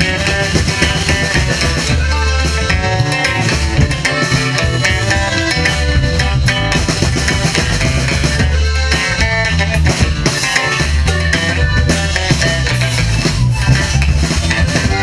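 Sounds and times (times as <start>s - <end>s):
bajo sexto strumming: 0.0s - 15.0s
button accordion melody: 0.0s - 15.0s
drum kit beat: 0.0s - 15.0s
electric bass: 0.0s - 15.0s.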